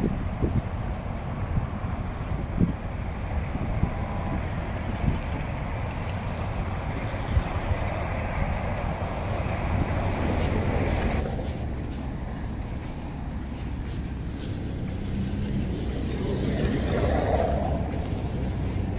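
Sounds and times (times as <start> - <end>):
traffic rumble: 0.0 - 18.9.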